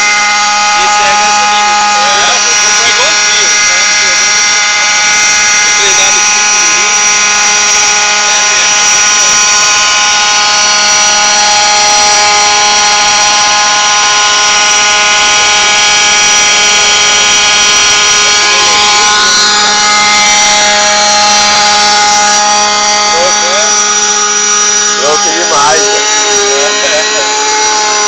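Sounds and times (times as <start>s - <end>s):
model helicopter engine whine: 0.0s - 28.0s.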